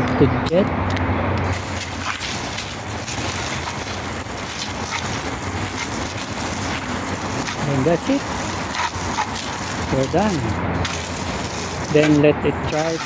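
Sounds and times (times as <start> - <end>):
hose spraying water on plastic: 1.5 - 13.0.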